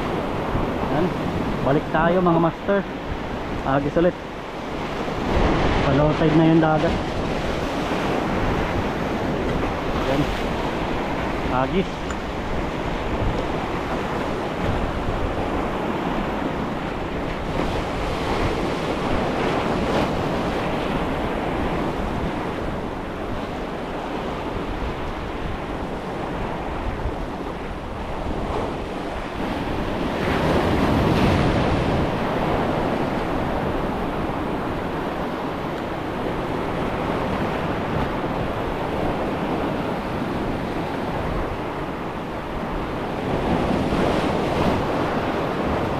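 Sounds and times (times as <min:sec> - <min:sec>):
surf breaking on rocky shore: 0:00.0 - 0:45.9
wind buffeting microphone: 0:00.0 - 0:45.9.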